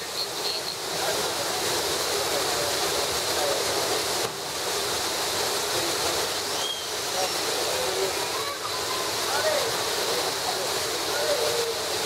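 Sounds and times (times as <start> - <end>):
water cascading onto rocks: 0.0 - 12.0.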